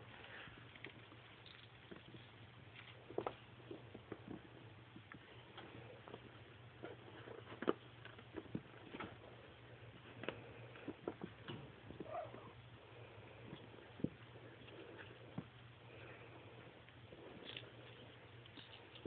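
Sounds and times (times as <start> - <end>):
kittens' paws pattering: 0.0 - 19.0.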